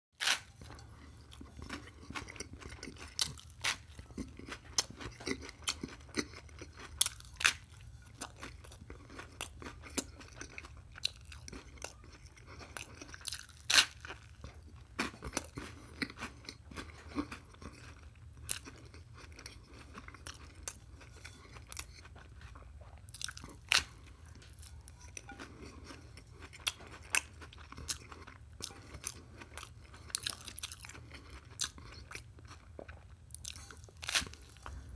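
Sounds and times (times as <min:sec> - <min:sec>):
crunchy toast chewing: 0:00.2 - 0:34.9.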